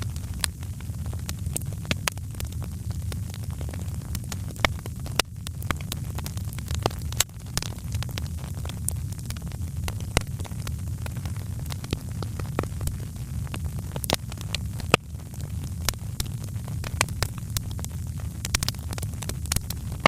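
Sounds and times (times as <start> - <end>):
low rumble of burning: 0.0 - 20.0
wood fire crackling: 0.0 - 20.0.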